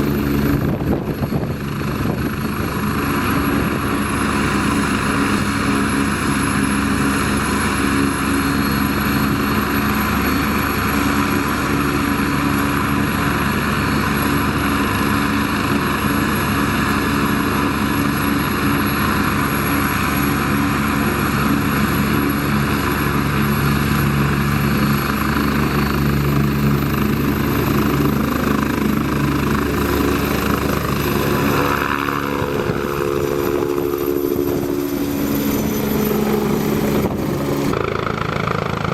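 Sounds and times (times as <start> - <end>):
model helicopter rotor drone: 0.0 - 38.9.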